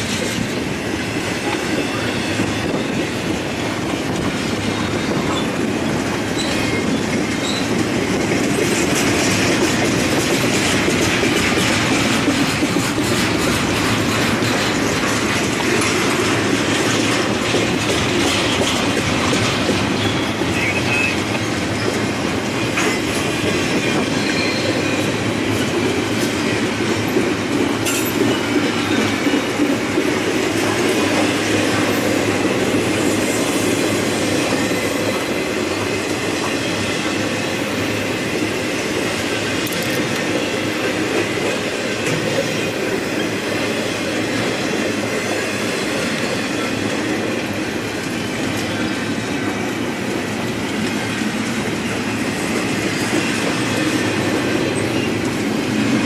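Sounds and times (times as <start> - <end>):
freight train rumbling and rattling: 0.0 - 56.0
train wheel clicks: 0.0 - 56.0.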